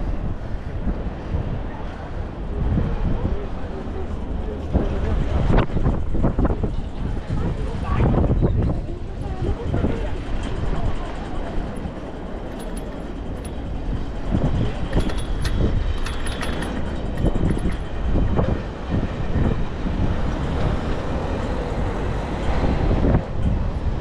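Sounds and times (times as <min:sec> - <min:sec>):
bicycle ride rumble: 0:00.0 - 0:24.0.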